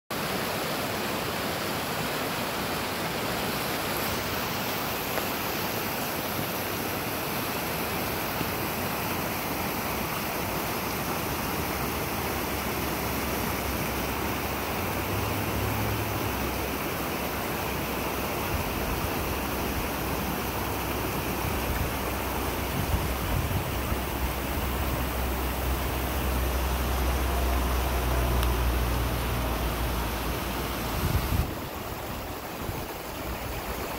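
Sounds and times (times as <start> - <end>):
river rushing over rocks: 0.1 - 33.9.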